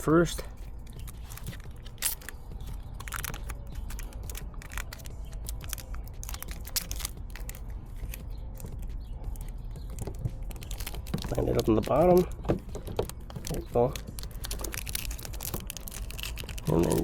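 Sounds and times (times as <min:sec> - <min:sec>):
tape peeling and crumpling: 0:00.5 - 0:17.0.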